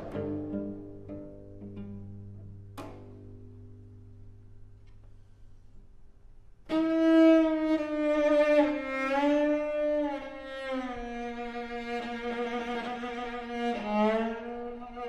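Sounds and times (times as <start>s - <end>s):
cello bowed notes: 0.0s - 5.1s, 6.6s - 15.0s.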